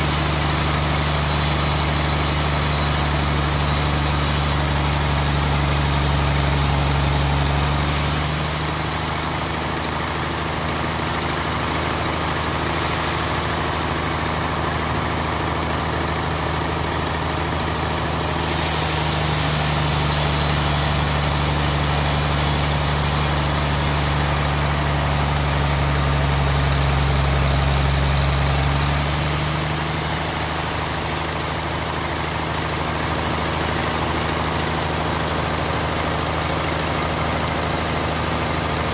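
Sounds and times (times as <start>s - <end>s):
band saw cutting wood: 0.0s - 16.2s, 18.1s - 38.9s.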